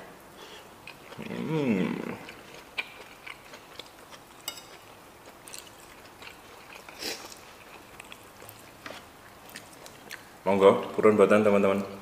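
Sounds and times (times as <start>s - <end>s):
soft chewing: 0.4s - 11.1s.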